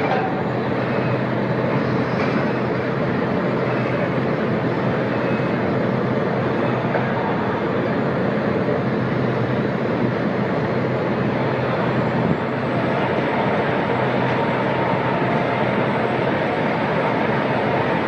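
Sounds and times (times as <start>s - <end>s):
heavy machinery running: 0.0s - 18.0s.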